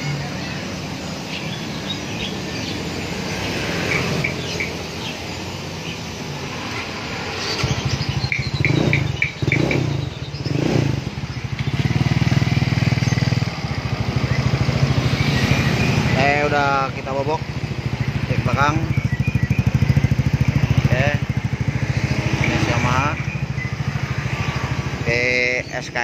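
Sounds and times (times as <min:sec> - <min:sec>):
scooter engine idling: 0:00.0 - 0:26.0.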